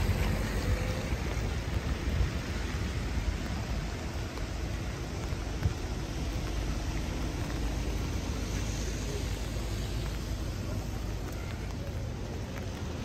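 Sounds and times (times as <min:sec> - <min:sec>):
city street noise: 0:00.0 - 0:13.0
steady rain: 0:00.0 - 0:13.0.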